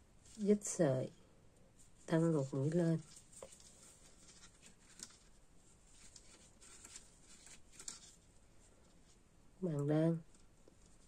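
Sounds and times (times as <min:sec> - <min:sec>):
yarn rustling: 0:00.0 - 0:01.0, 0:01.8 - 0:11.0.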